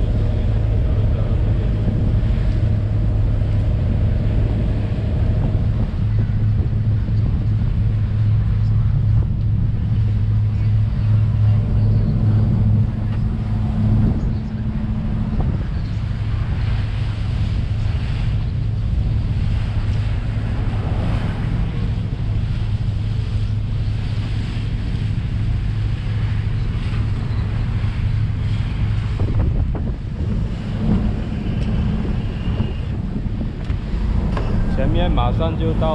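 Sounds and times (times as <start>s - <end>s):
ferry engine low drone: 0.0s - 35.9s
water rushing past hull: 0.0s - 35.9s
wind on microphone: 0.0s - 35.9s.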